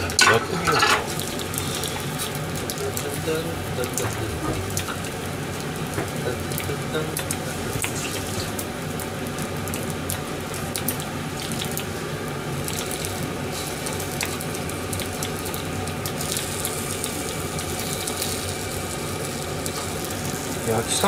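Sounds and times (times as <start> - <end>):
food sizzling in a skillet: 0.0 - 21.0.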